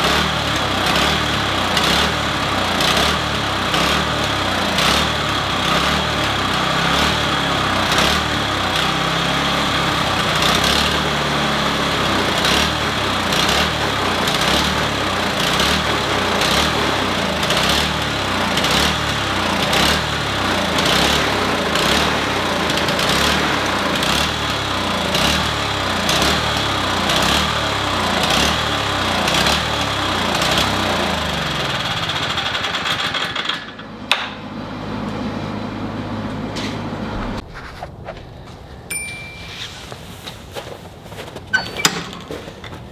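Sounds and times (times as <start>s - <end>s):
small engine hunting: 0.0s - 42.9s.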